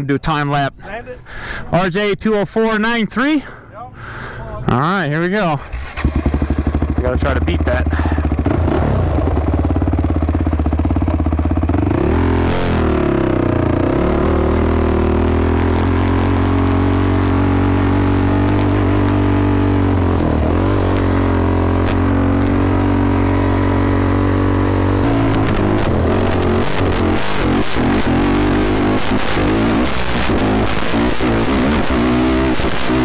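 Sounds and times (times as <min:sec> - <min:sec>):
atv engine revving: 0:04.8 - 0:33.0.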